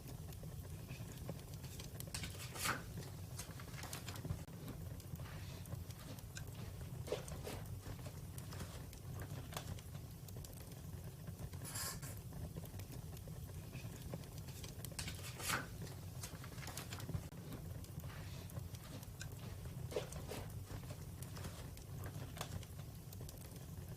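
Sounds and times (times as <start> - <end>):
fire hissing: 0.0 - 23.9
wood fire crackling: 0.0 - 23.9.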